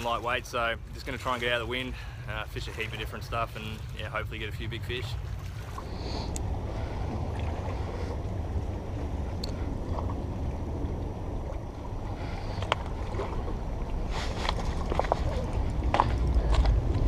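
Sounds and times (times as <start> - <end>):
strong wind buffeting microphone: 0.8 - 17.0.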